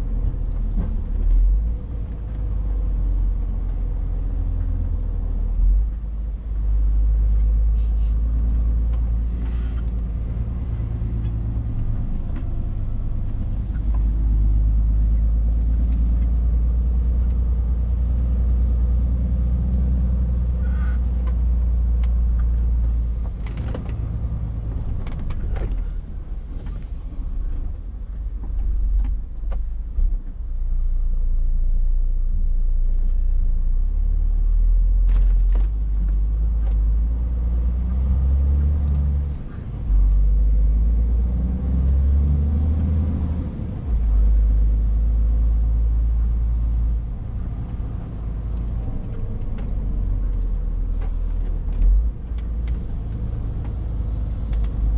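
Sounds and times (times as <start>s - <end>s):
diesel truck engine rumble: 0.0s - 54.9s.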